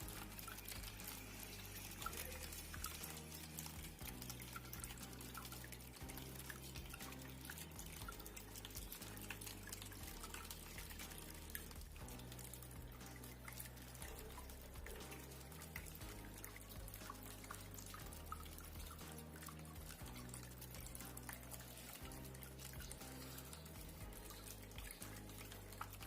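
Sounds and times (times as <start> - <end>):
soft background music: 0.0 - 26.0
water trickling and dripping: 0.0 - 26.0.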